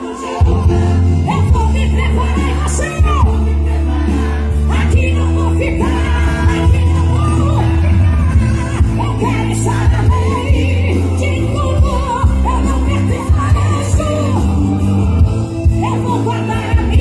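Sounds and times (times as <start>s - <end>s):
live gospel band music: 0.0s - 17.0s.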